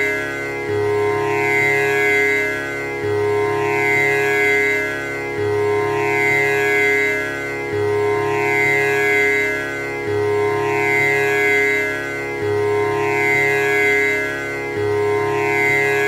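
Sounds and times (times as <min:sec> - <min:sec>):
tanpura drone: 0:00.0 - 0:16.0.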